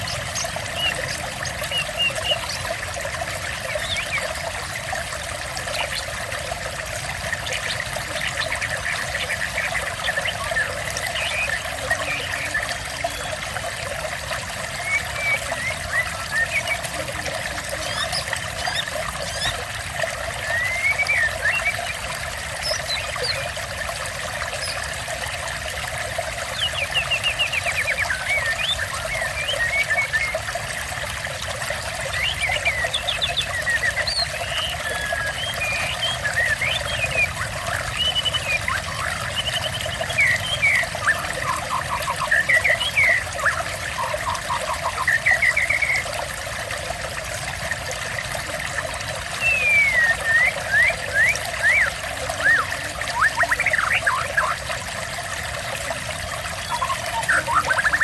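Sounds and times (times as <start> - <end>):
songbirds chirping and trilling: 0.0 - 25.3, 26.2 - 30.7, 31.8 - 46.2, 49.2 - 54.6, 55.8 - 58.0
water trickling: 0.0 - 58.0.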